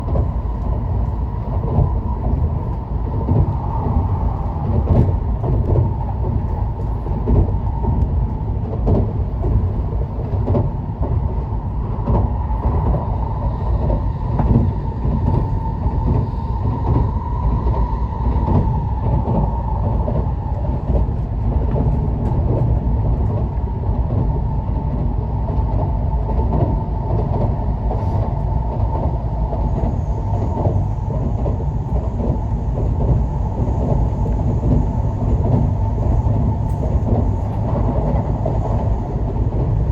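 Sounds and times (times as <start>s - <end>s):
constant whine: 0.0s - 39.9s
train rumble: 0.0s - 39.9s.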